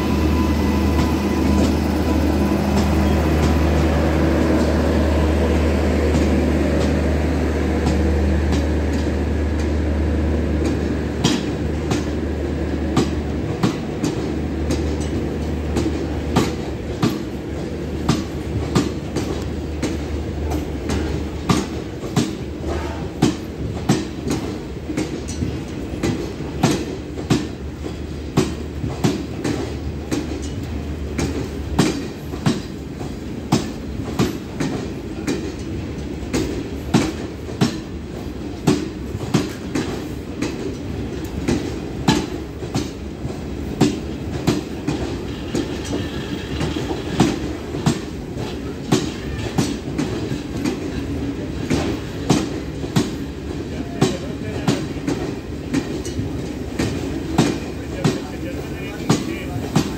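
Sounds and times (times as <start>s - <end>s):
low rumble of rolling train: 0.0s - 59.9s
train wheels clicking over rail joints: 0.0s - 59.9s.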